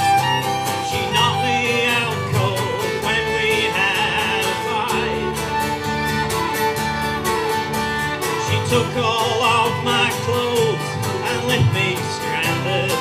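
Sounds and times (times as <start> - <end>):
fiddle sliding fills: 0.0 - 13.0
strummed guitar: 0.0 - 13.0.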